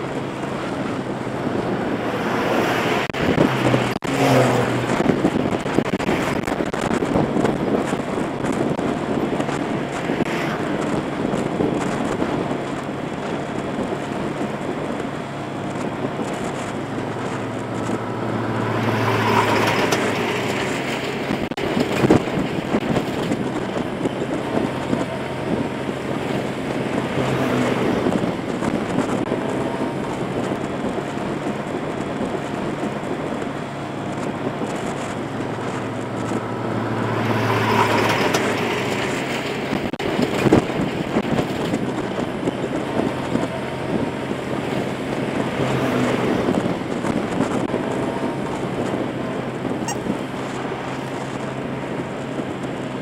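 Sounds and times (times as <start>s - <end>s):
motorbike engine hum: 0.0s - 53.0s
trucks passing: 0.0s - 53.0s
wind and road noise: 0.0s - 53.0s.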